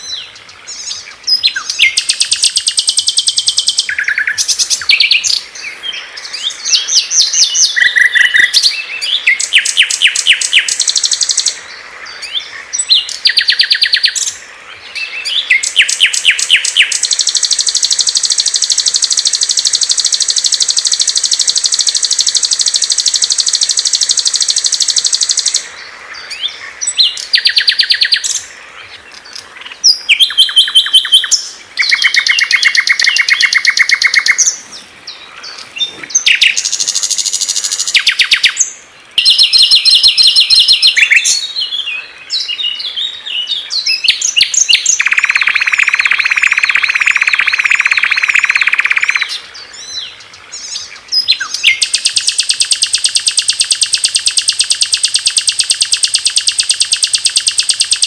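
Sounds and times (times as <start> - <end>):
songbirds trilling and chirping: 0.0 - 58.0
buzzy bird trill: 0.8 - 5.4, 6.4 - 11.6, 12.7 - 14.4, 15.0 - 25.7, 26.8 - 28.5, 29.8 - 34.6, 36.1 - 41.5, 43.9 - 49.4, 50.7 - 58.0.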